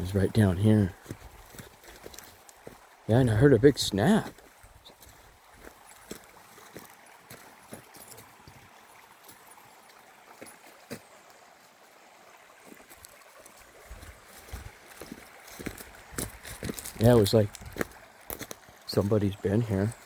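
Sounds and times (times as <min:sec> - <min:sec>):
footsteps on riverbank: 0:00.0 - 0:11.5, 0:12.5 - 0:20.0
river flowing: 0:00.0 - 0:20.0.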